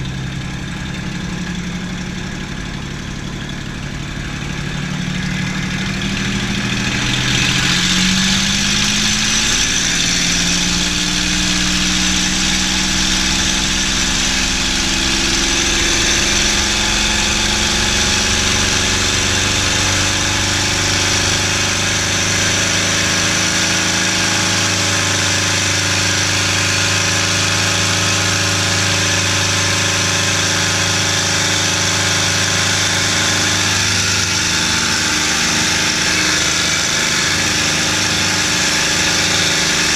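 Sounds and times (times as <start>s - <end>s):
aircraft engine at takeoff power: 0.0s - 39.9s.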